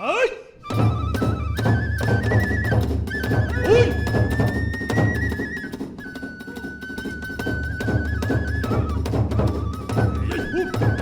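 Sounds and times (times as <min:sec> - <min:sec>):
bamboo flute melody: 0:00.6 - 0:11.0
big drum beats: 0:00.6 - 0:11.0
sharp percussion strokes: 0:00.7 - 0:11.0.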